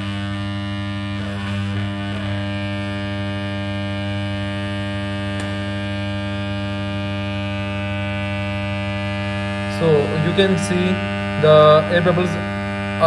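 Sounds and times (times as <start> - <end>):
vibrator machine buzzing: 0.0 - 13.0.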